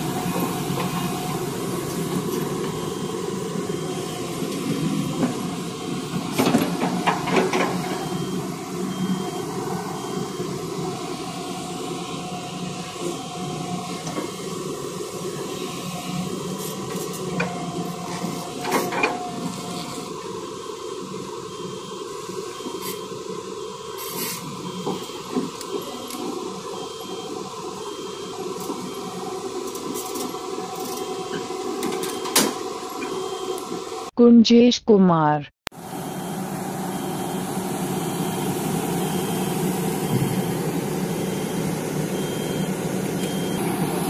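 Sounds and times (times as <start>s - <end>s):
excavator diesel engine running: 0.0s - 34.1s, 35.7s - 44.0s.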